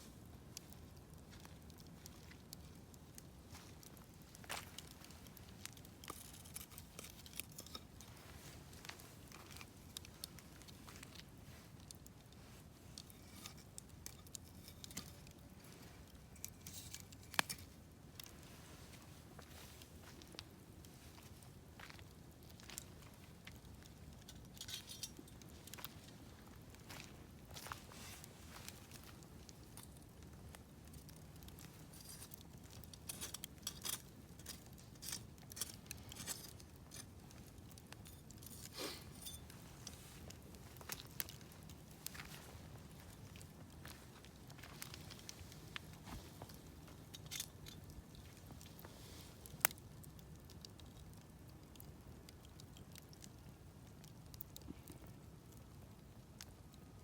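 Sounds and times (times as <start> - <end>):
campfire crackling: 0.0 - 57.0
fire popping: 0.1 - 57.0.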